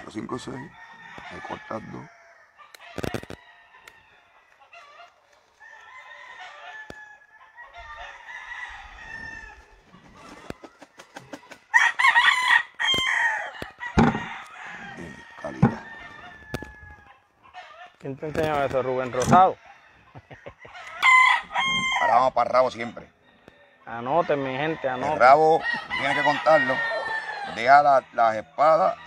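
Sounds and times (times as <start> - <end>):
roosters crowing: 0.0 - 29.0.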